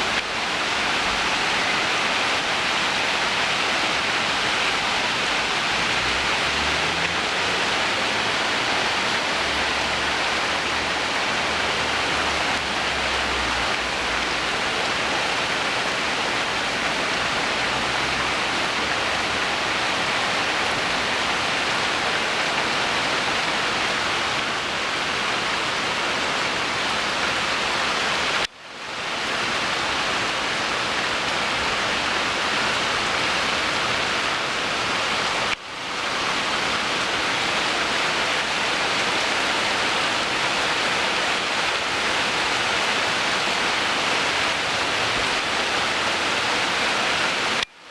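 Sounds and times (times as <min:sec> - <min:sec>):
hard rain hiss: 0:00.0 - 0:47.9.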